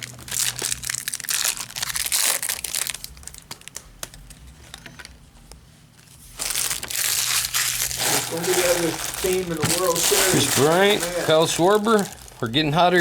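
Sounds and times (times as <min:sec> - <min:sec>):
foil wrappers crinkling and tearing: 0:00.0 - 0:04.2, 0:06.2 - 0:13.0.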